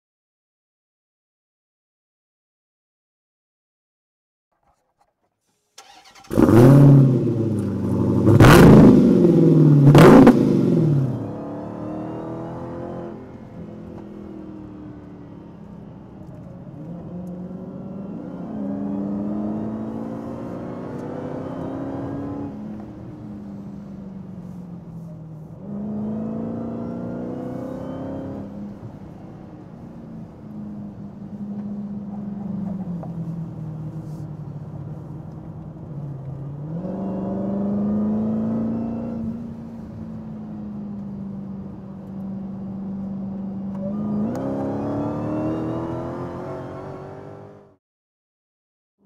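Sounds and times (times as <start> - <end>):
car engine accelerating hard: 5.8 - 47.8.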